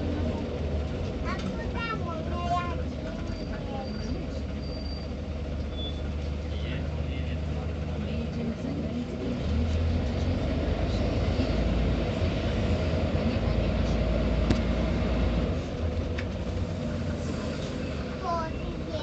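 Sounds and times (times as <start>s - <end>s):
bus engine pulling: 0.0s - 19.0s.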